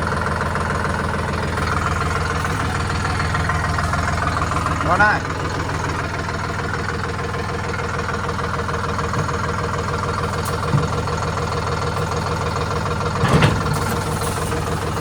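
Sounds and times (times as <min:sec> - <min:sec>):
engine knocks: 0:00.0 - 0:15.0
vehicle engine idling: 0:00.0 - 0:15.0.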